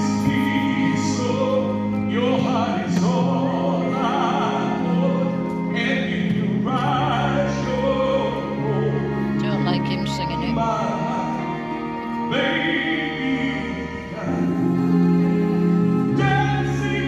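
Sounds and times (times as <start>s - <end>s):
man singing operatically: 0.0s - 9.4s, 10.5s - 14.5s, 16.1s - 17.0s
orchestral accompaniment: 0.0s - 17.0s.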